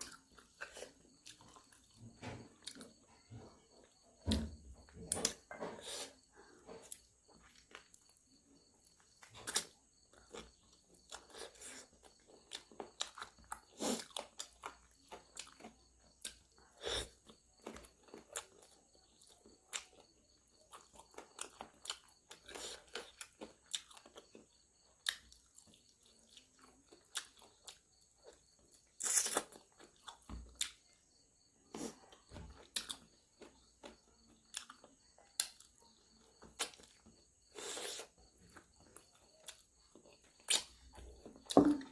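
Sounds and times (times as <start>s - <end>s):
person chewing and crunching food: 0.0s - 41.9s.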